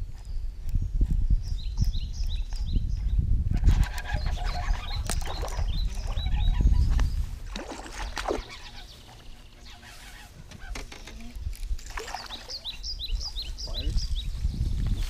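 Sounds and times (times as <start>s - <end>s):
wind buffeting microphone: 0.0s - 9.6s, 10.2s - 15.0s
birds chirping: 0.0s - 15.0s.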